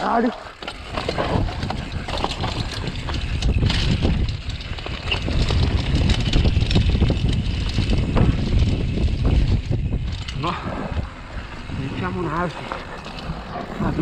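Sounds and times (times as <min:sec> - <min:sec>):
bike rattling over dirt trail: 0:00.0 - 0:14.0
tyres on loose earth: 0:00.0 - 0:14.0
wind on microphone: 0:00.8 - 0:14.0.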